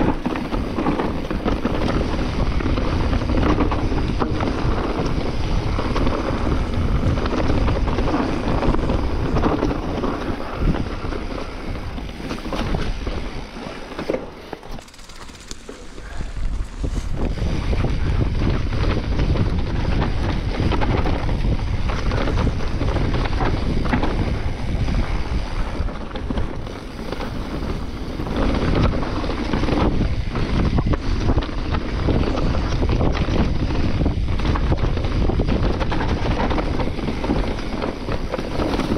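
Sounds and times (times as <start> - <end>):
bike knocking and rattling: 0.0 - 38.9
tyres rolling over dry leaves: 0.0 - 38.9
wind buffeting microphone: 0.0 - 38.9.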